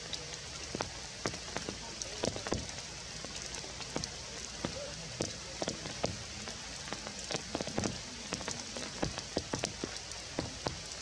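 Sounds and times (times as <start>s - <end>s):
sharp raindrop hits: 0.0s - 11.0s
steady rain falling: 0.0s - 11.0s.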